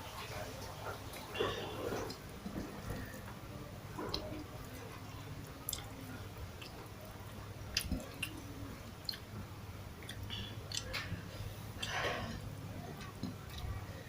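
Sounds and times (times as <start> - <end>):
close chewing mouth sounds: 0.2 - 14.0.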